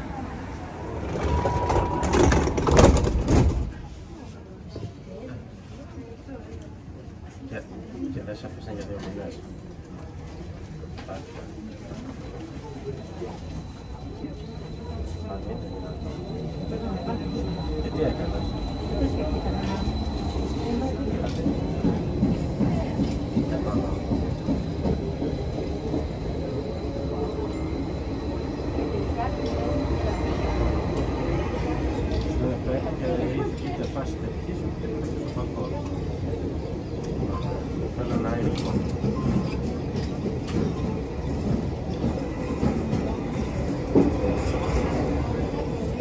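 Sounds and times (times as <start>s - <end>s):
train wheels rumbling on track: 0.0s - 5.5s, 8.5s - 46.0s.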